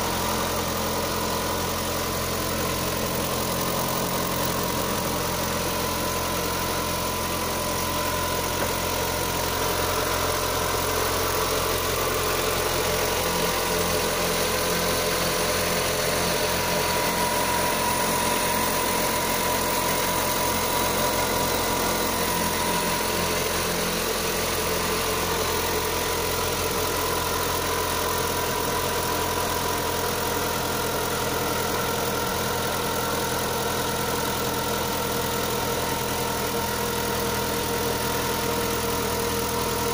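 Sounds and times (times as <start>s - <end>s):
engine knocking: 0.0s - 39.9s
petrol engine idling: 0.0s - 39.9s.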